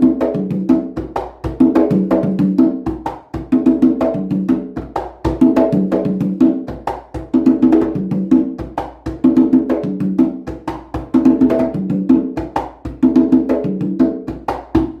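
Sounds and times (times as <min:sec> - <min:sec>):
conga drum rhythm: 0:00.0 - 0:15.0.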